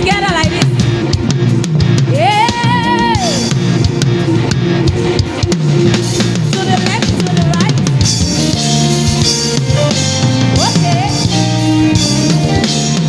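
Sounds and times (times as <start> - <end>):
bass guitar line: 0.0 - 13.0
worship band playing: 0.0 - 13.0.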